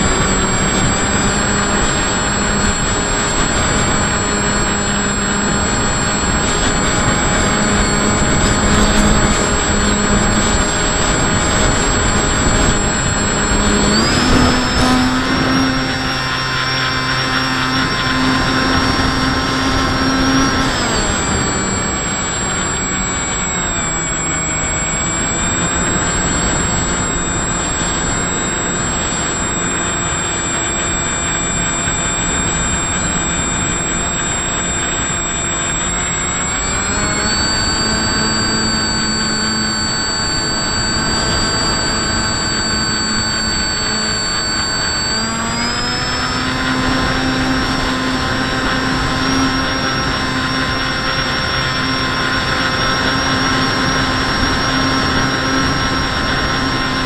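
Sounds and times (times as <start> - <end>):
model aircraft motor whine: 0.0 - 57.0
wind rushing past microphone: 0.0 - 57.0.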